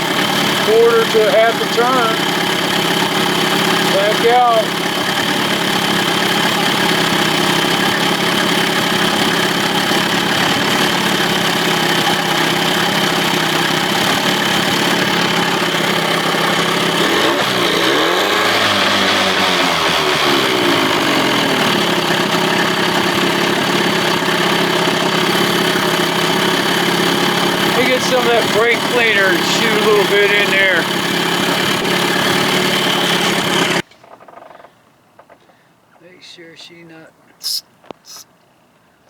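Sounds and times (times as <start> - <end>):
outboard motor idling: 0.0 - 35.3.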